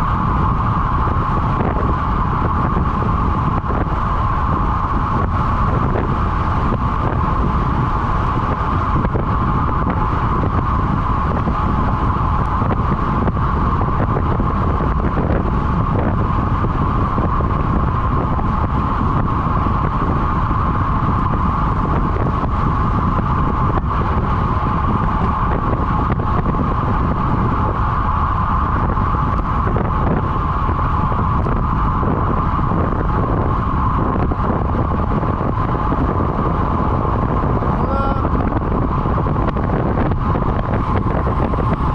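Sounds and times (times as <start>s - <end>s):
high-pitched whine: 0.0s - 41.9s
wind rushing over microphone: 0.0s - 41.9s.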